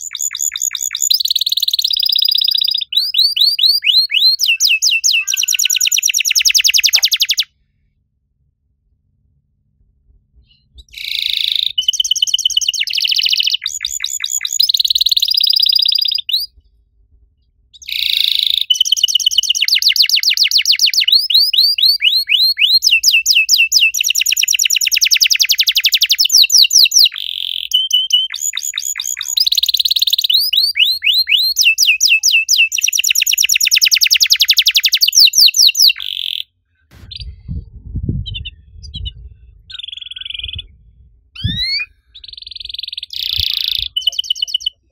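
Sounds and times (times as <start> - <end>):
canary singing trills: 0.0 - 7.5, 10.6 - 16.6, 17.8 - 36.5, 38.2 - 40.8, 41.4 - 44.9.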